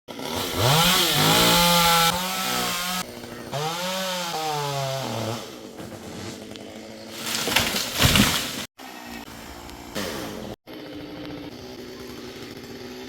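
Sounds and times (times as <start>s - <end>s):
chainsaw revving: 0.1s - 13.0s.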